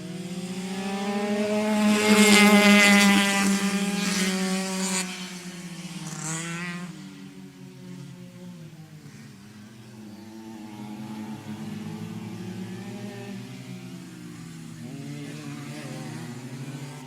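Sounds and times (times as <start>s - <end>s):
kart engine passing by: 0.0s - 17.0s.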